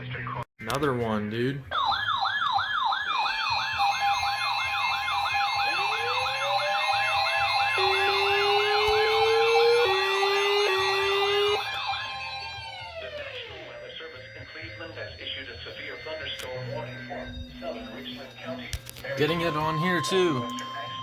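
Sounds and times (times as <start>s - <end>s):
electronic siren alarm tones: 1.7s - 21.0s
fast yelping siren: 1.7s - 21.0s
lower rising tone: 3.8s - 21.0s.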